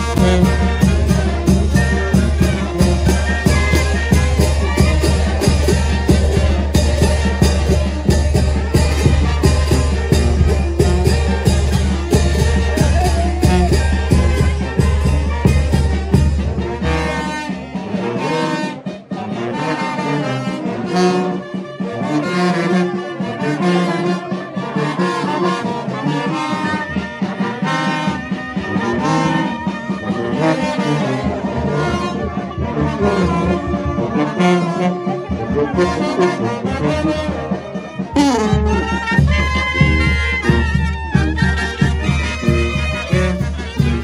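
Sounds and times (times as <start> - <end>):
brass band playing: 0.0 - 44.0.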